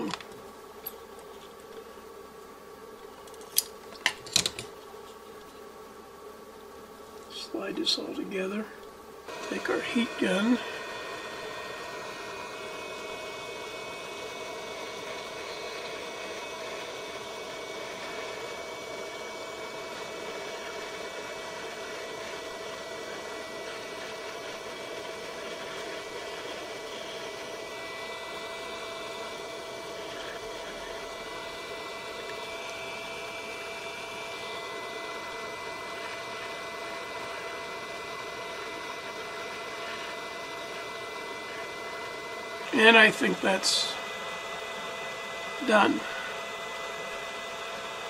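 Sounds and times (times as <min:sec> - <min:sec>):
fan motor whine: 0:00.0 - 0:48.0
heat gun air rush: 0:07.3 - 0:48.0.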